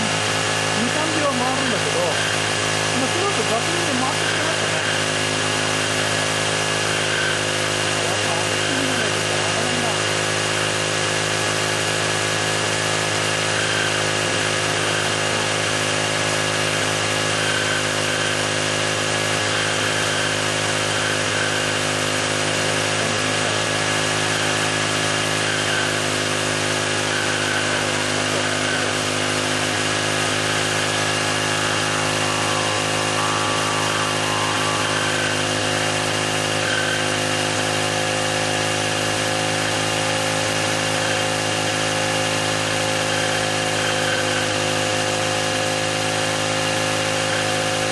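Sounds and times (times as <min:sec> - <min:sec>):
brush cutter engine running: 0:00.0 - 0:47.9.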